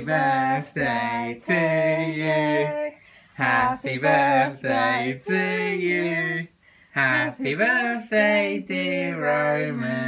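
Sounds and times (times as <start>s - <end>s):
person singing slowly: 0.0s - 10.0s.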